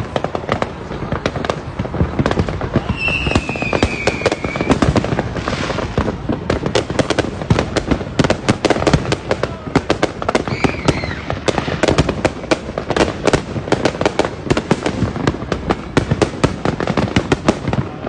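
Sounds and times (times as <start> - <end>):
fireworks bangs and pops: 0.0 - 18.0
whistling firework: 0.0 - 18.0.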